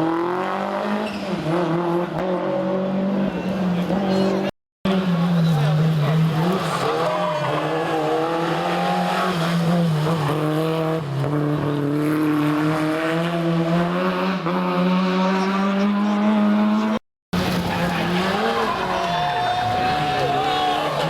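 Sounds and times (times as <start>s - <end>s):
rally car engine revving hard: 0.0s - 21.0s.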